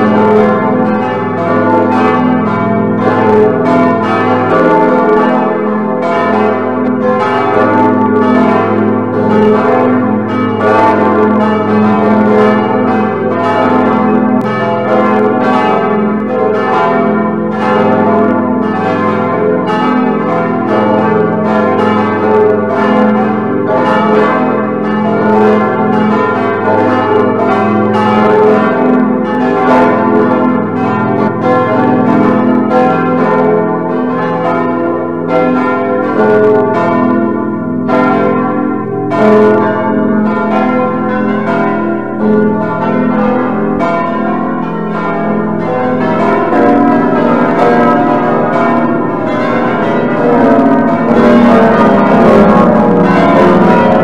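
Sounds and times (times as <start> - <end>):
church bells pealing: 0.0 - 54.0.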